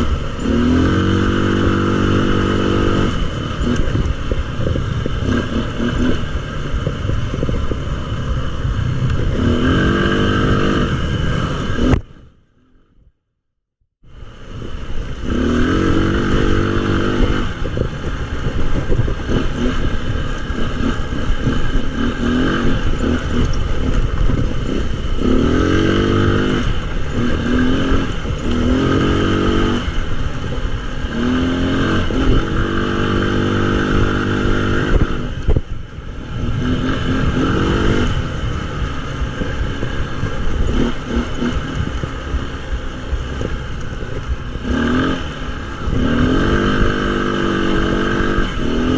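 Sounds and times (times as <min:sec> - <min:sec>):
wind rush on camera: 0:00.0 - 0:12.4, 0:14.1 - 0:48.9
atv engine revving: 0:00.0 - 0:12.9, 0:14.3 - 0:48.9.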